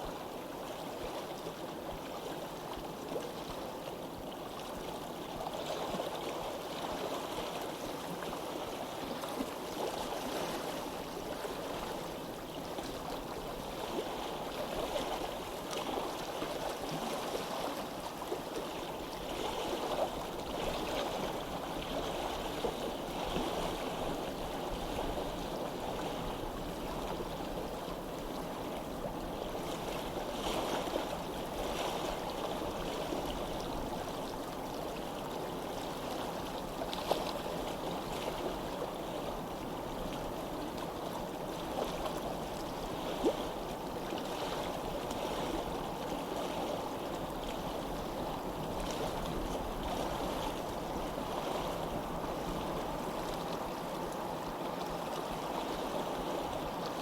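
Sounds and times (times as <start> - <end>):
stream water running: 0.0 - 57.0.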